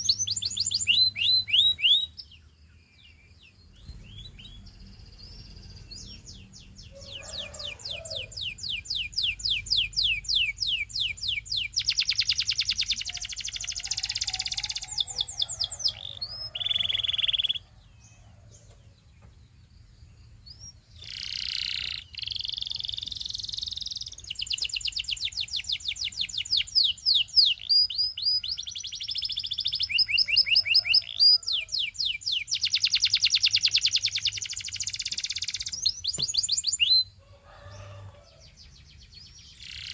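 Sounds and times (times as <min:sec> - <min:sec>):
canary trilling: 0:00.0 - 0:02.4, 0:03.8 - 0:17.6, 0:20.5 - 0:38.5, 0:39.4 - 0:39.9.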